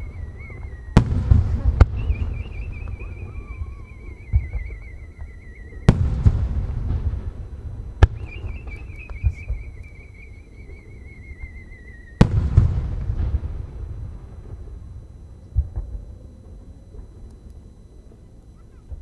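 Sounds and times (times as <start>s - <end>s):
firework burst echoing: 0.0s - 17.2s
firework whistle: 0.0s - 19.0s.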